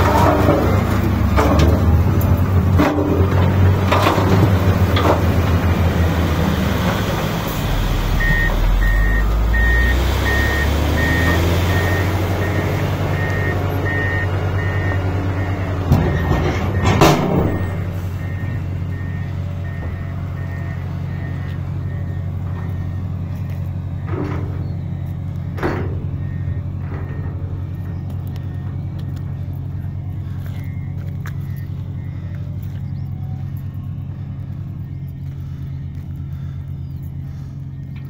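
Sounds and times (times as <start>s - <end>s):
heavy diesel engines running: 0.0s - 38.0s
beeping alarm: 7.3s - 38.0s.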